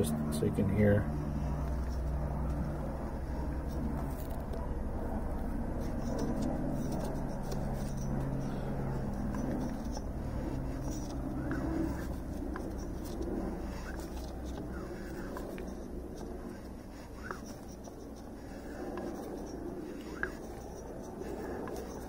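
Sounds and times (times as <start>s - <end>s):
piston rubbing in cylinder bore: 1.2s - 22.0s.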